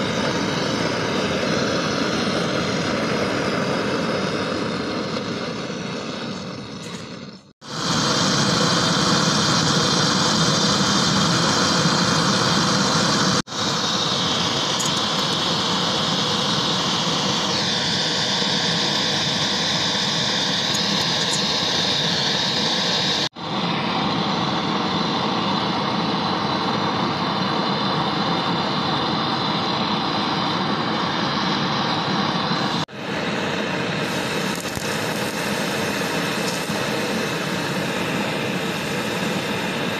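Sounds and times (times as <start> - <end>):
gas torch flame rushing: 0.0 - 39.9.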